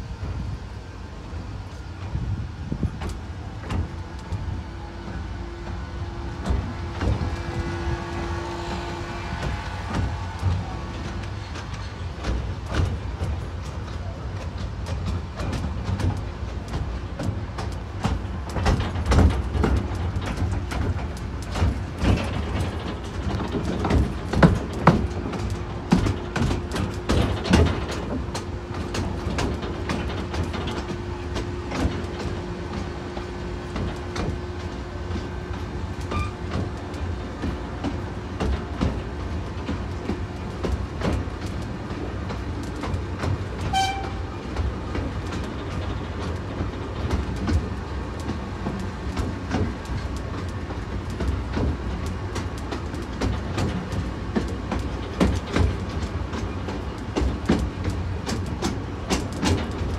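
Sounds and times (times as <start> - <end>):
miniature train rumbling: 0.0 - 59.9
wheels clicking over rail joints: 0.0 - 59.9.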